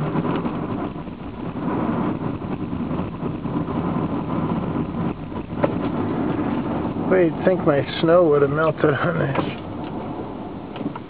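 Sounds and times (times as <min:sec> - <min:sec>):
car engine: 0:00.0 - 0:11.0
road noise: 0:00.0 - 0:11.0.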